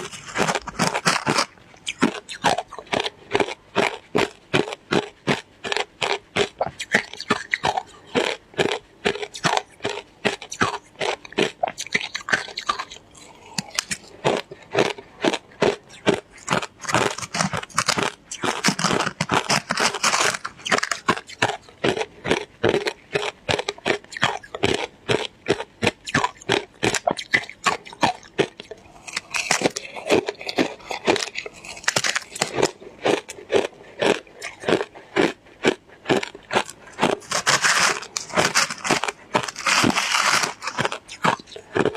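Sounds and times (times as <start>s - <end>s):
person chewing shaved ice: 0.0s - 41.9s.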